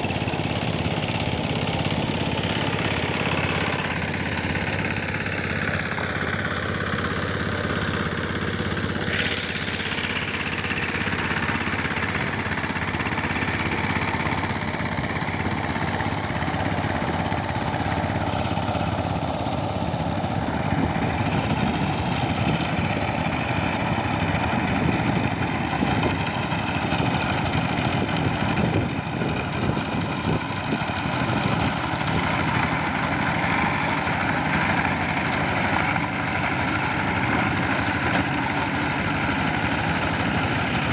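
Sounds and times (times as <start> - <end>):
power tiller engine chugging: 0.0 - 40.9.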